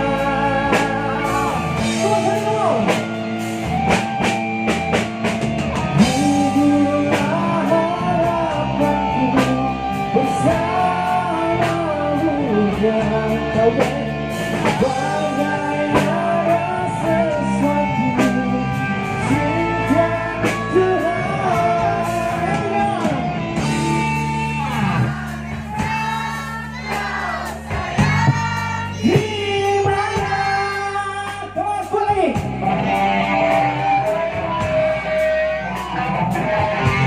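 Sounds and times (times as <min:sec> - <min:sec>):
male singer: 0:00.0 - 0:03.2, 0:05.8 - 0:37.0
bass guitar: 0:00.0 - 0:37.0
drums: 0:00.0 - 0:37.0
electric guitar: 0:00.0 - 0:37.0.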